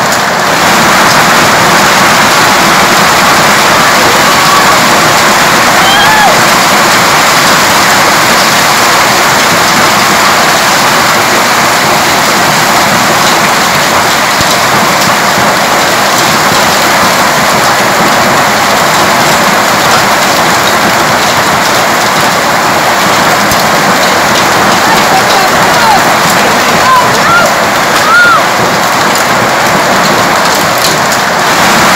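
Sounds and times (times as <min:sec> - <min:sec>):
hail and heavy rain pelting: 0:00.0 - 0:31.9.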